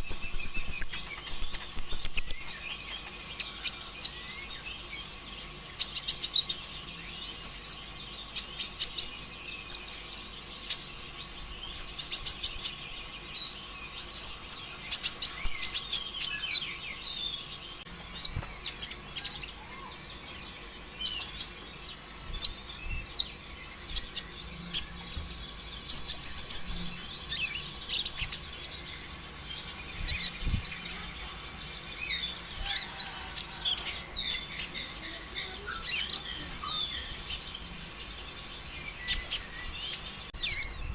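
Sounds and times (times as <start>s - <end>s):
sunbird chirps and trills: 0.0s - 40.9s.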